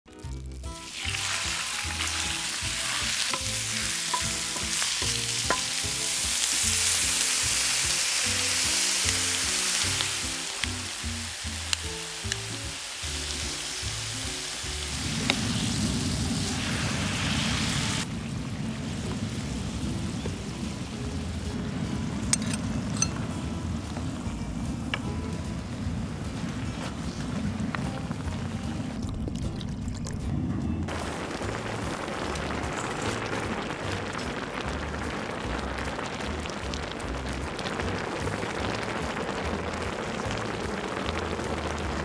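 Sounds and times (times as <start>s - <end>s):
meat sizzling on a griddle: 0.2s - 23.3s, 30.9s - 42.0s.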